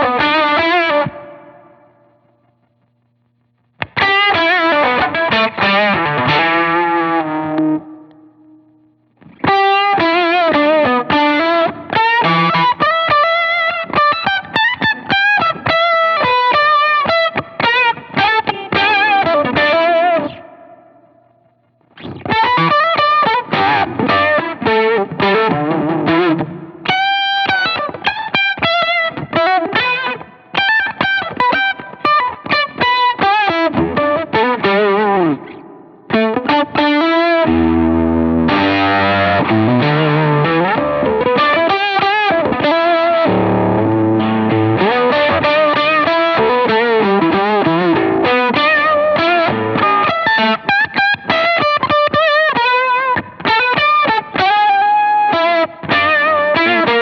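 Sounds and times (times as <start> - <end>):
distorted guitar chord: 0.0 - 52.2
fuzz electric guitar lead lines: 0.0 - 57.0.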